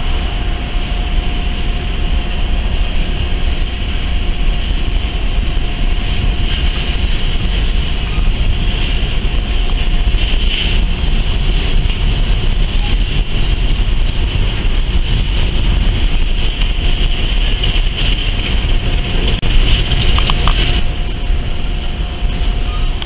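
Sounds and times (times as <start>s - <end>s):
freight train cars rumbling on rails: 0.0s - 23.0s
wind noise on microphone: 0.0s - 23.0s.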